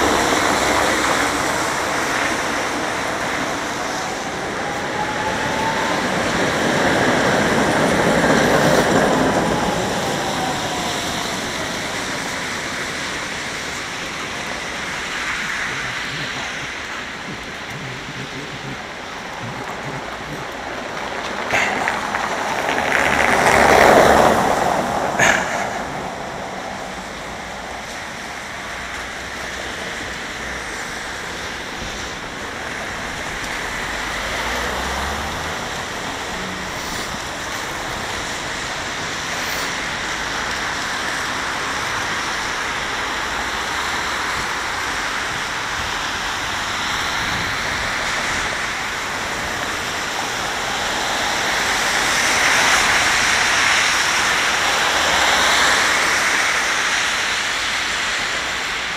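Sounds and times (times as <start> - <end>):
tyres hissing on wet road: 0.0 - 58.9.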